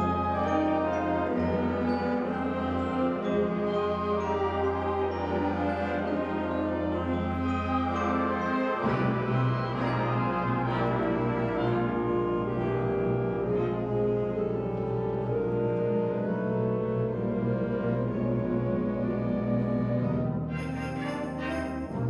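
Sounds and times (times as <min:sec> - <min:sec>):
wind ensemble playing chords: 0:00.0 - 0:22.0.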